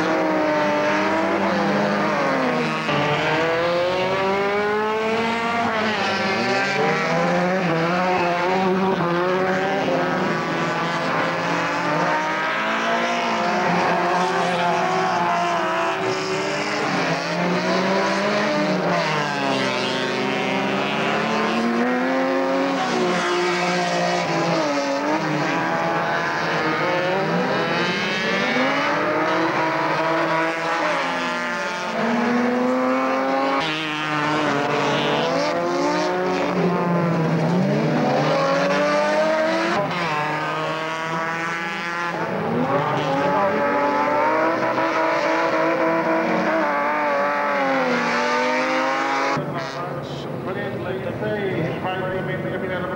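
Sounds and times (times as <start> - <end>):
racing car engines revving: 0.0 - 52.9.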